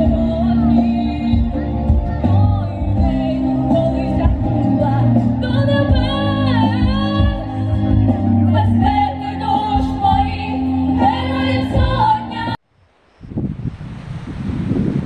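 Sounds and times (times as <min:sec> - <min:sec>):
backing music with bass: 0:00.0 - 0:12.6
vocal group singing: 0:00.0 - 0:12.6.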